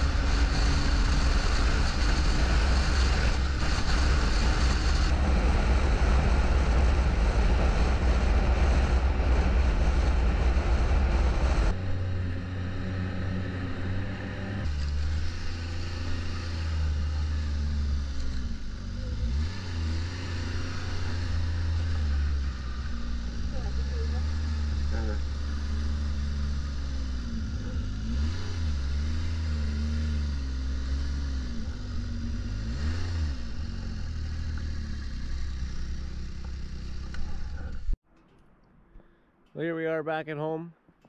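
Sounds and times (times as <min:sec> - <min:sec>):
snowmobile engine running: 0:00.0 - 0:38.0.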